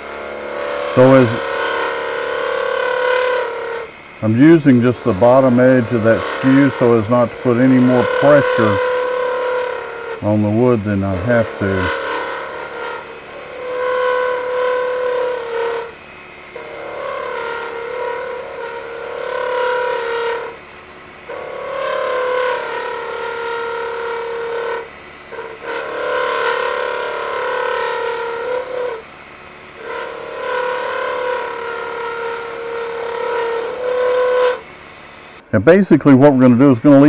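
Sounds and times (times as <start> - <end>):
chisel cutting spinning wood: 0.0 - 37.0.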